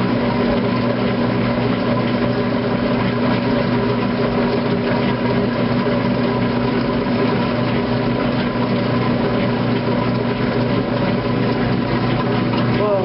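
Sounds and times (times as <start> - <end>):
washing machine draining: 0.0 - 13.0.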